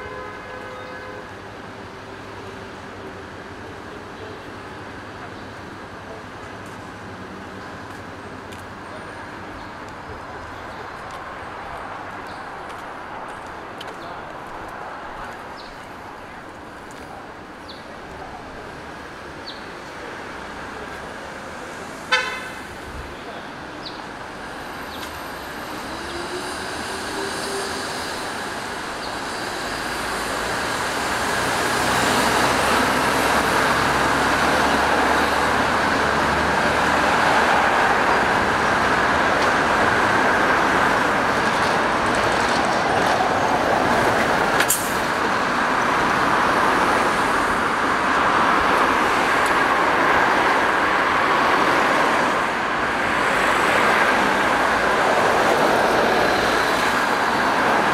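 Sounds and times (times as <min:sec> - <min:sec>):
road traffic passing: 0:00.0 - 0:57.9.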